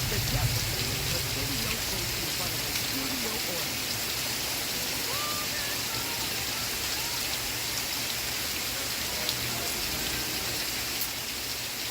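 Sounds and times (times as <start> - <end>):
faint television soundtrack: 0.0 - 7.6, 8.5 - 10.7
steady rain: 0.0 - 11.9.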